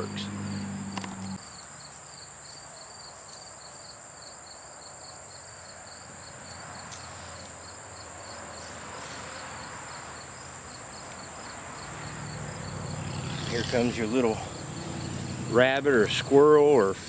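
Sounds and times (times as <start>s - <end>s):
insects chirping: 0.0s - 17.0s
outdoor background noise: 0.0s - 17.0s.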